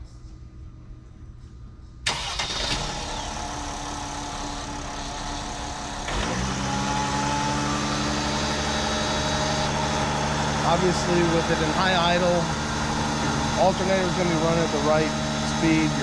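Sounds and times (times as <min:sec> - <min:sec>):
van engine starting and idling: 0:02.0 - 0:16.0.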